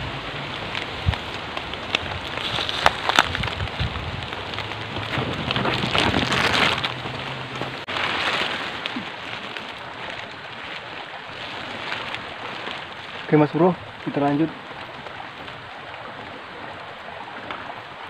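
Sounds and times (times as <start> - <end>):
heavy rain falling: 0.0 - 18.0
rain drop hits: 0.0 - 18.0.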